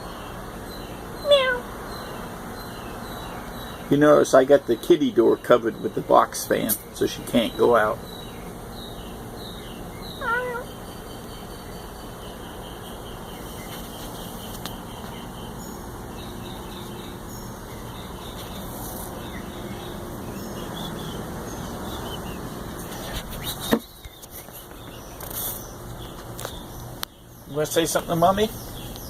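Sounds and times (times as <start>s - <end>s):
box fan whirring: 0.0s - 29.0s.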